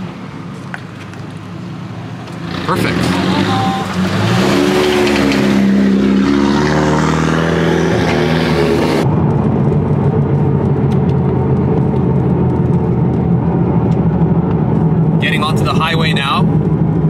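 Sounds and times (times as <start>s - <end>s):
car engine revving: 1.8s - 17.0s.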